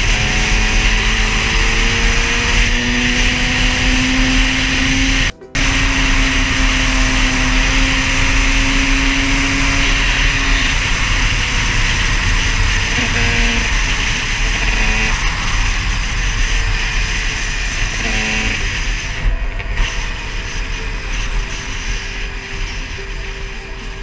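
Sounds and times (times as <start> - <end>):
two-stroke motorcycle engine: 0.0 - 24.0.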